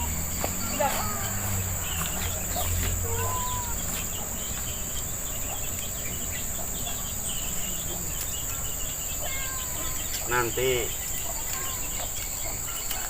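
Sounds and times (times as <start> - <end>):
faint insect chirps: 0.0 - 13.0
insect chorus drone: 0.0 - 13.0.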